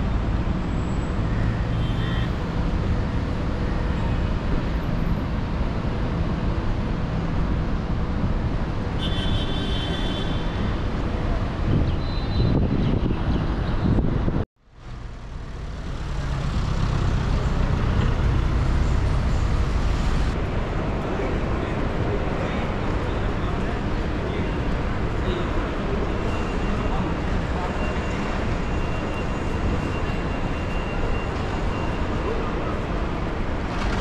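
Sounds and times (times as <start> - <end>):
road vehicles rumbling: 0.0 - 34.0.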